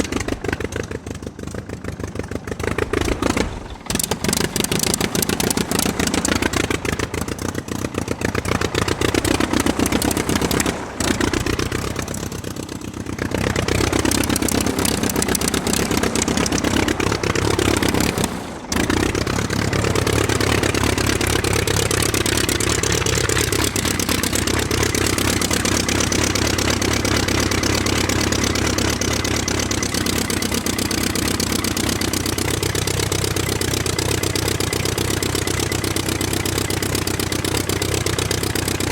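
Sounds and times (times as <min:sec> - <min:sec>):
toy remote-control trucks driving: 0:02.8 - 0:38.9.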